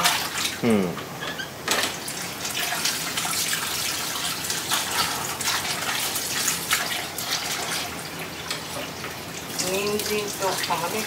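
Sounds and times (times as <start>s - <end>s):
water splashing into sink: 0.0s - 0.6s, 1.7s - 11.0s.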